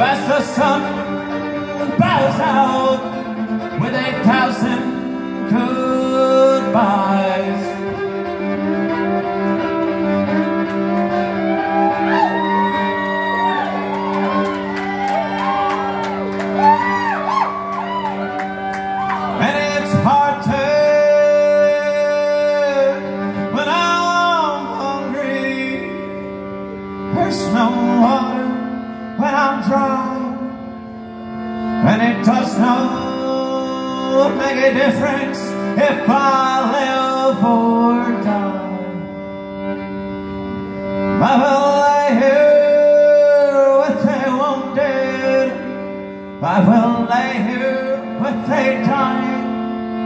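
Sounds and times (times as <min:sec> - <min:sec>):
low drone of held notes: 0:00.0 - 0:50.0
solo fiddle melody: 0:00.0 - 0:50.0.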